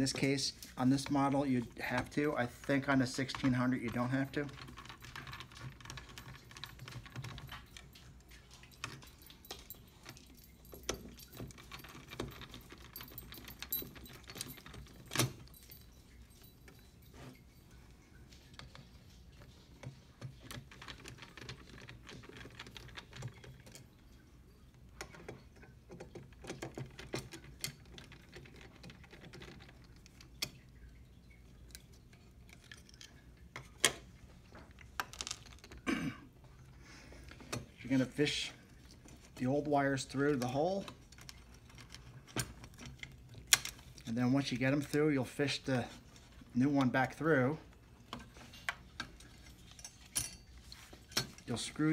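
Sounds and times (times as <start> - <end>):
small clicks and metallic rattles: 0.0 - 35.9, 37.1 - 51.9.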